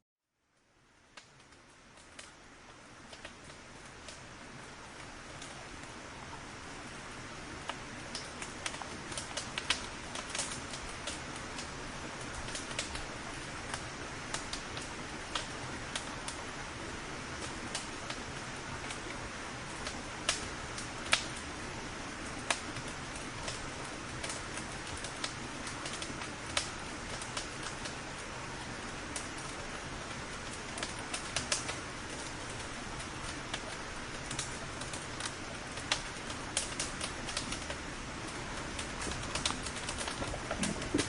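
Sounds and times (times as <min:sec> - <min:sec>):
bonfire crackling and popping: 0:01.0 - 0:41.0.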